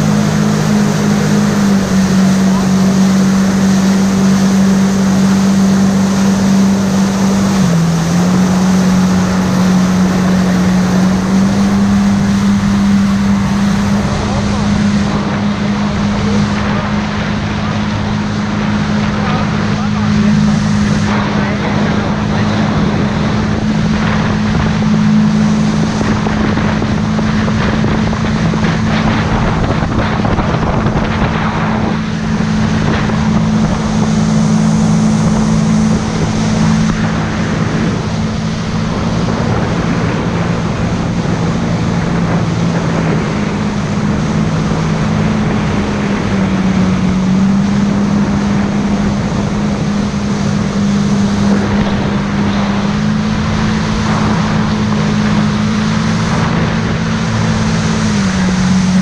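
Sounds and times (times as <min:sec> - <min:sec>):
jet ski engine drone: 0:00.0 - 0:59.0.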